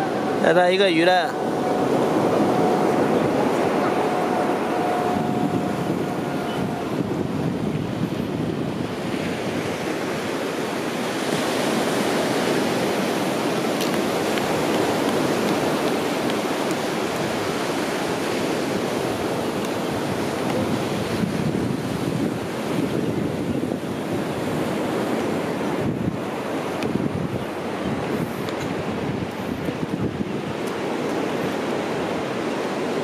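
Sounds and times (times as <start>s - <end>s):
sea surf on beach: 0.0s - 33.0s
wind on microphone: 0.0s - 33.0s.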